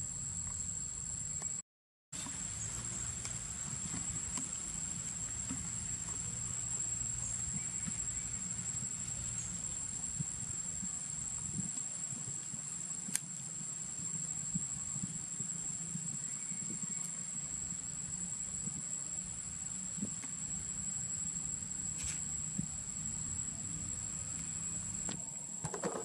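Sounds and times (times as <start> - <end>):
insects droning: 0.0 - 1.6, 2.2 - 26.0.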